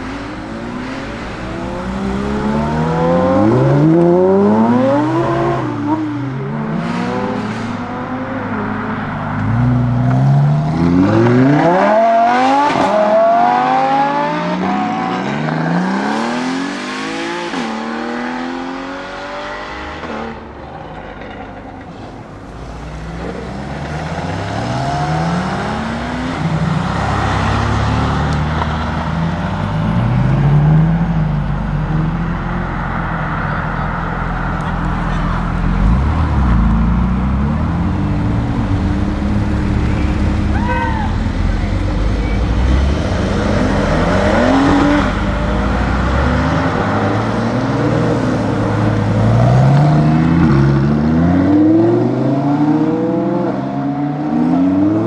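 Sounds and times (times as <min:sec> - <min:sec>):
sports car engine accelerating: 0:00.0 - 0:55.0.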